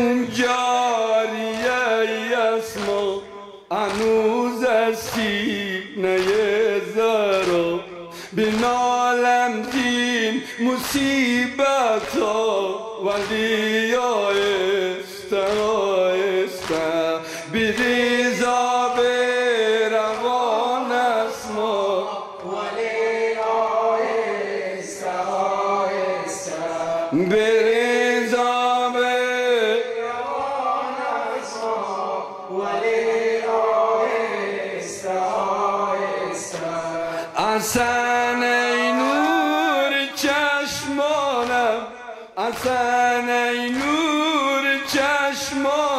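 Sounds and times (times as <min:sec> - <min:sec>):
man chanting into a microphone: 0:00.0 - 0:45.9.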